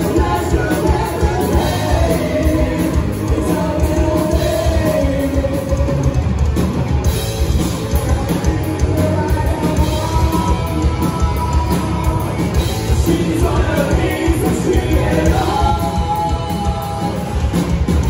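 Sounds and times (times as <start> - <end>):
vocalist singing: 0.0 - 6.4, 7.8 - 18.0
live rock band playing: 0.0 - 18.0.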